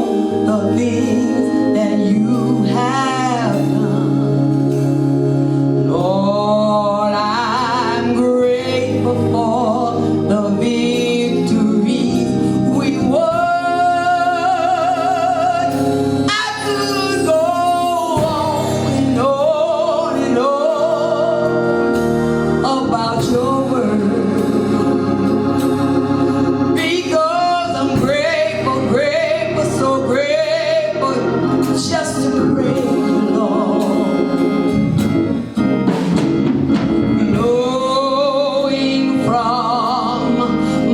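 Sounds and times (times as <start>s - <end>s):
instrumental accompaniment: 0.0s - 40.9s
person singing gospel: 0.0s - 40.9s.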